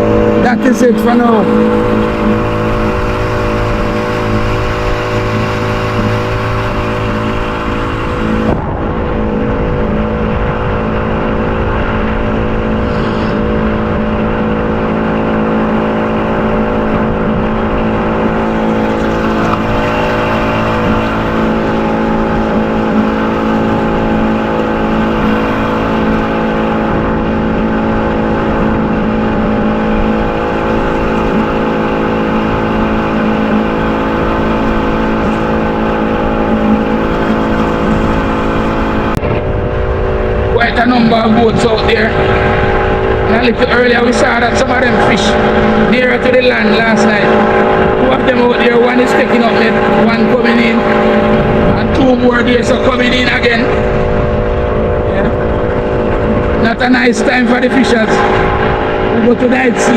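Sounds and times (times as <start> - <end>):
motor droning hum: 0.0 - 59.9
wind rumbling on microphone: 0.0 - 59.9.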